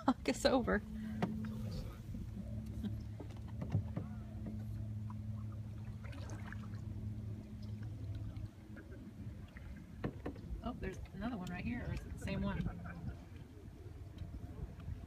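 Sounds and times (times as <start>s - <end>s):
low hum: 0.0s - 15.0s
water lapping: 0.0s - 15.0s.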